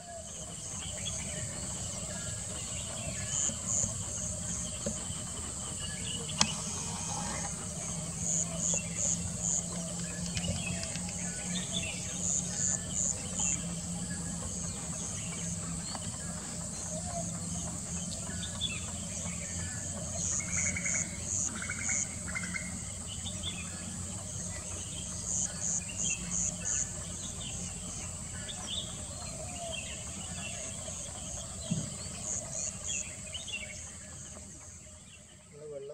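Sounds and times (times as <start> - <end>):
small birds calling: 0.0 - 35.9.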